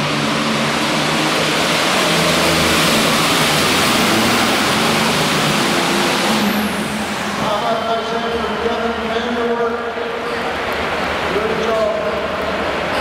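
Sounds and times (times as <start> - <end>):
tractor diesel engine at full power: 0.0 - 12.9
dense rushing noise: 0.0 - 13.0.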